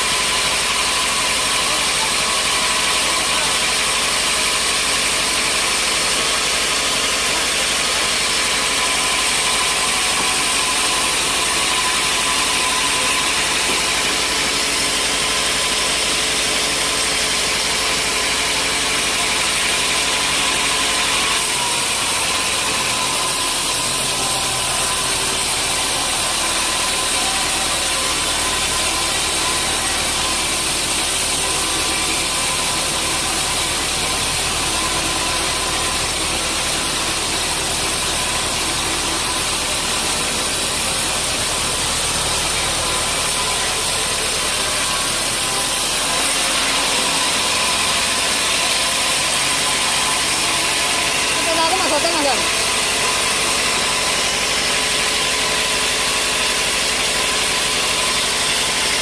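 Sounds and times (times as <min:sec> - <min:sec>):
sawmill machinery hissing: 0:00.0 - 0:59.0.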